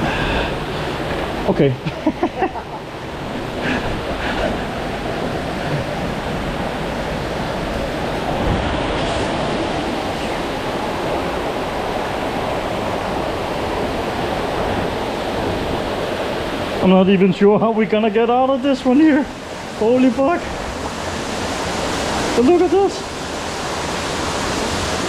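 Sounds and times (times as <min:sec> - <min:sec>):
fast-flowing water rushing: 0:00.0 - 0:25.0.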